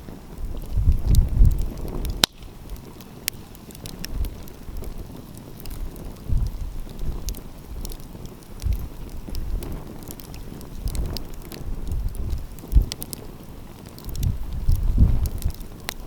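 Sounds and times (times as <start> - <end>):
wind buffeting microphone: 0.0 - 16.0
wood fire crackling and popping: 0.0 - 16.0.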